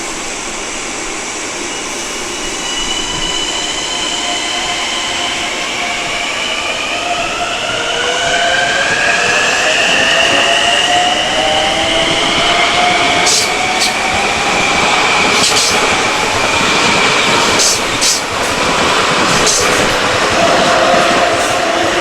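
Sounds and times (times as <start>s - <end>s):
train wheel rumble: 0.0s - 22.0s.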